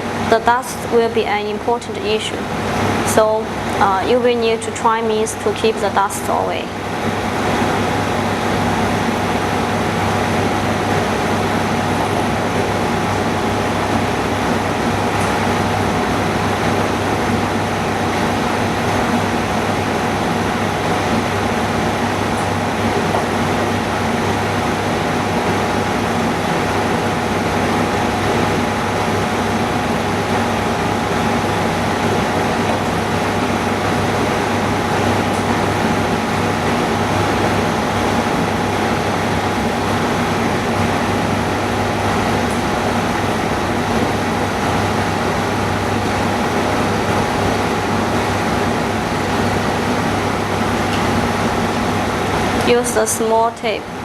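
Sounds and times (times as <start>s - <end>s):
machinery low hum: 0.0s - 54.0s.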